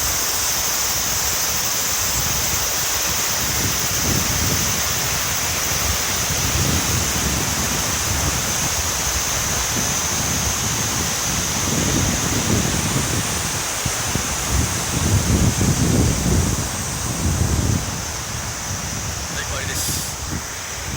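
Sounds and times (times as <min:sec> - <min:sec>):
wind rumble on microphone: 0:00.0 - 0:20.9.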